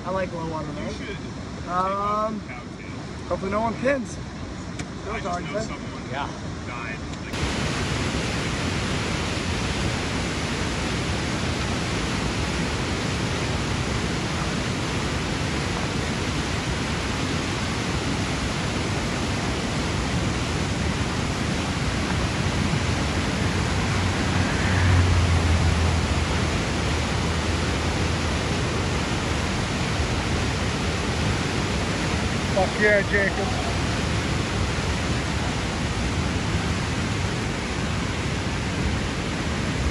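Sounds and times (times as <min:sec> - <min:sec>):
water rushing over boulders: 0:00.0 - 0:39.9.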